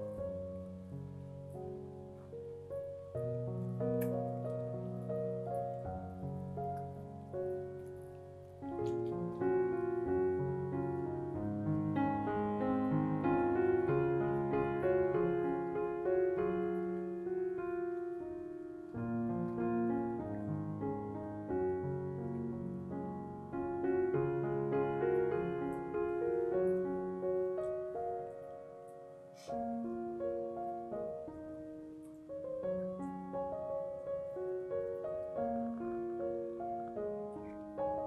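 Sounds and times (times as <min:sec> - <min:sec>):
soft piano music: 0:00.0 - 0:38.0.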